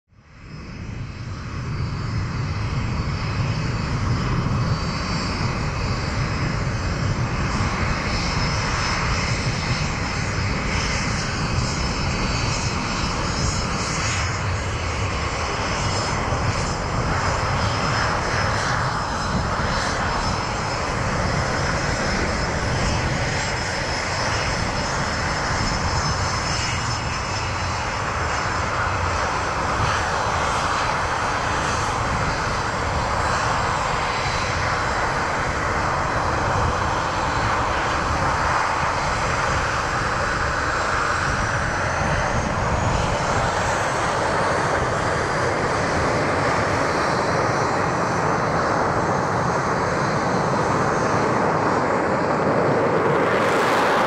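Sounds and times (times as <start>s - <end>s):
jet engines running: 0.2s - 54.0s.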